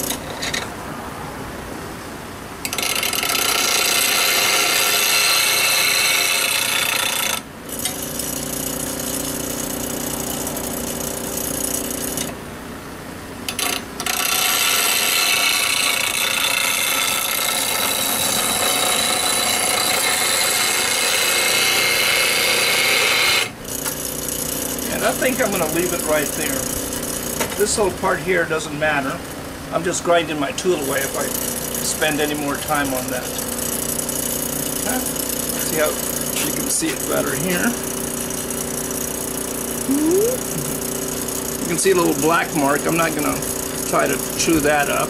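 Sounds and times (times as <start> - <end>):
bench grinder motor hum: 0.0 - 0.7, 2.6 - 12.4, 13.5 - 27.9, 30.8 - 45.0
metal grinding on wheel: 0.0 - 0.7, 2.6 - 12.3, 13.5 - 27.9, 30.7 - 45.0.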